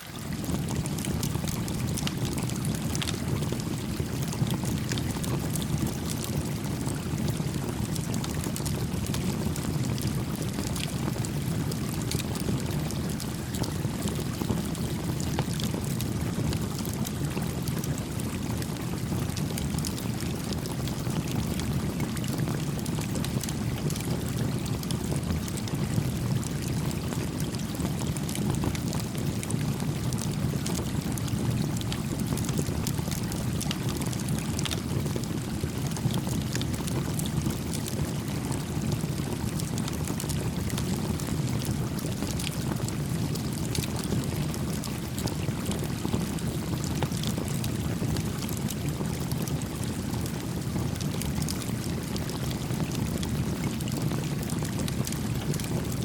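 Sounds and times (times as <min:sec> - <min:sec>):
campfire crackles and pops: 0:00.4 - 0:50.2, 0:50.8 - 0:55.9.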